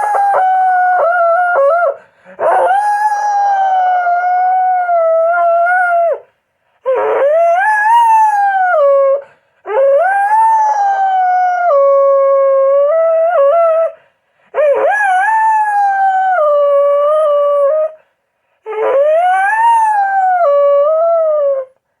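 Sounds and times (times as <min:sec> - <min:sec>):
dog howling: 0:00.0 - 0:06.2, 0:06.9 - 0:14.0, 0:14.6 - 0:18.0, 0:18.7 - 0:21.7.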